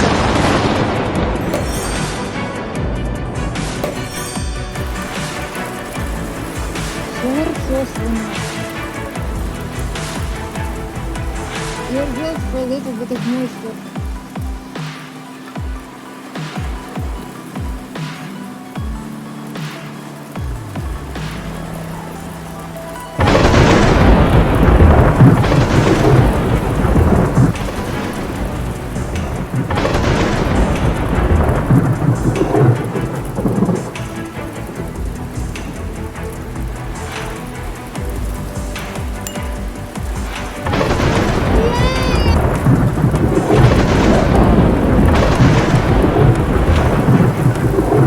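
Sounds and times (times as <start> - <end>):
heavy rain: 0.0 - 48.0
thunder rumbling: 0.0 - 48.0.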